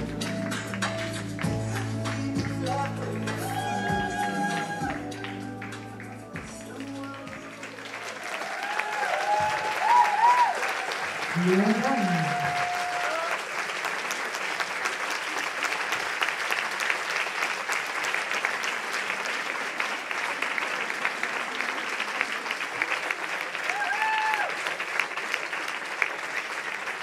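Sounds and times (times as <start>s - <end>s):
audience applause: 0.0s - 27.0s.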